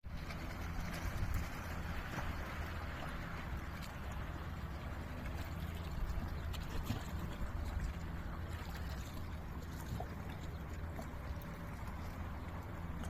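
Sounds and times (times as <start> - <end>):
footsteps wading through water: 0.0 - 13.0
steady low rumble: 0.0 - 13.0
water sloshing and splashing: 0.0 - 13.0.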